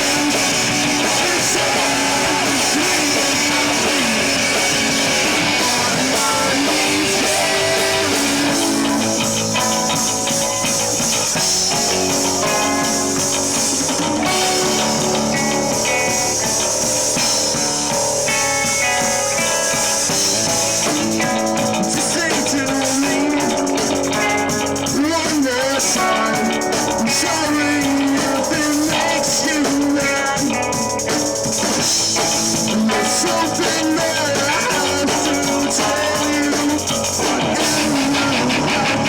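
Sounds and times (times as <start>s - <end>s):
bass guitar: 0.0s - 39.0s
drums and cymbals: 0.0s - 39.0s
electric guitar: 0.0s - 39.0s.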